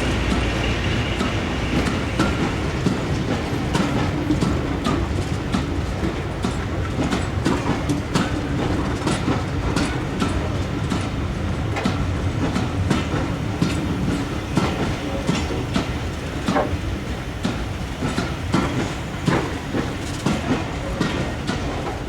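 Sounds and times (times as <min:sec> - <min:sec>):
railway carriage rumble: 0:00.0 - 0:22.0
wheels clickety-clack: 0:00.0 - 0:22.0.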